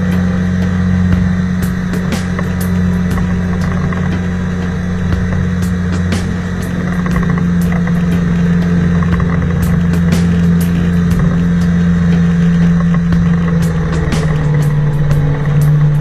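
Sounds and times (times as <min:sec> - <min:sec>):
engine running steadily: 0:00.0 - 0:16.0
sharp ticks: 0:00.0 - 0:16.0.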